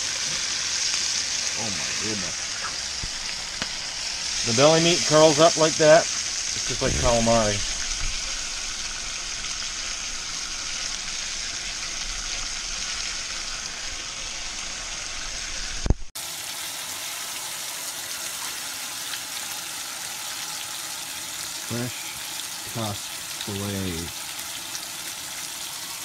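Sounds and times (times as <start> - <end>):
fish sizzling in oil: 0.0 - 26.0.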